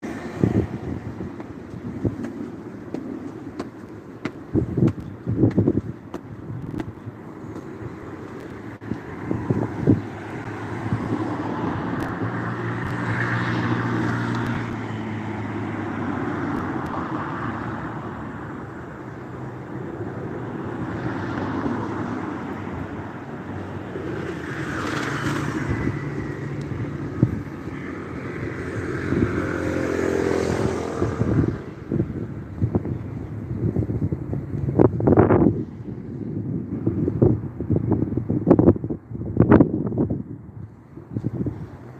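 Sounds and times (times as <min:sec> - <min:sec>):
steady traffic noise: 0:00.0 - 0:41.9
vehicles passing: 0:00.0 - 0:41.9.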